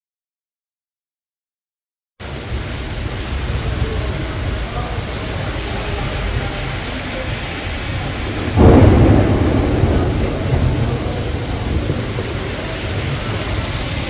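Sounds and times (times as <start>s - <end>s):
heavy rain: 2.2s - 14.0s
thunder clap: 2.5s - 14.0s.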